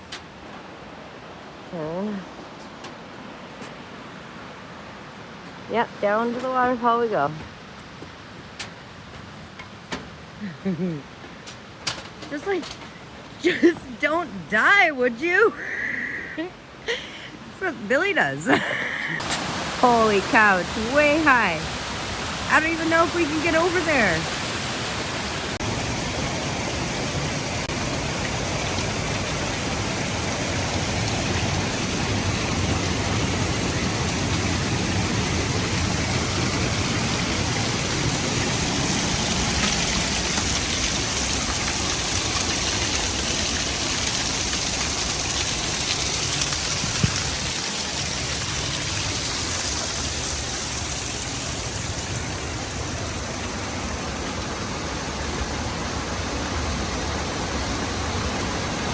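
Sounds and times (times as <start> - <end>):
waterfall roaring: 9.9 - 58.9.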